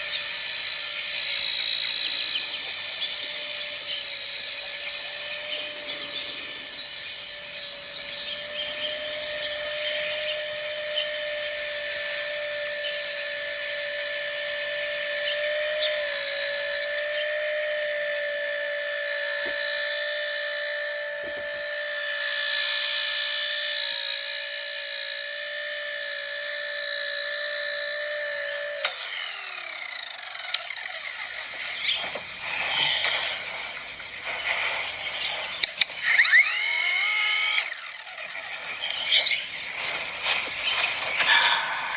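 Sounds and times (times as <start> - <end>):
rc helicopter rotor whining: 0.0 - 41.9.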